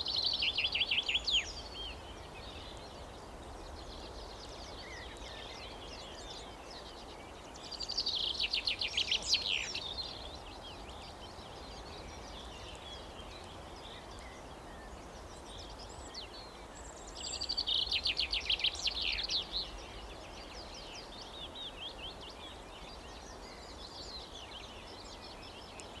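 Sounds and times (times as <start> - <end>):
songbird trilling song: 0.0 - 26.0.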